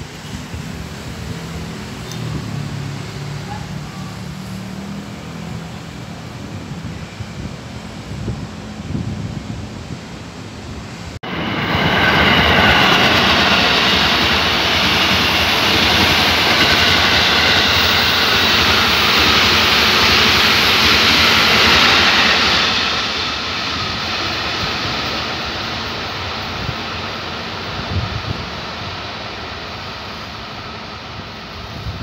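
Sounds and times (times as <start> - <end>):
train wheels rushing on rails: 0.0 - 32.0.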